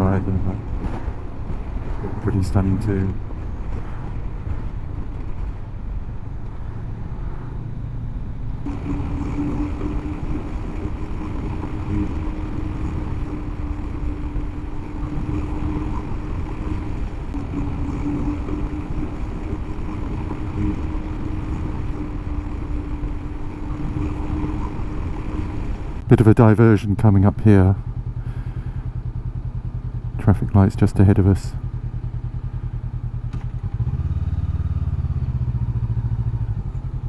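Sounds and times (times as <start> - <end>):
wind rumble on microphone: 0.0 - 30.6
steady hum: 0.0 - 34.0
motorcycle cruising: 0.0 - 37.0.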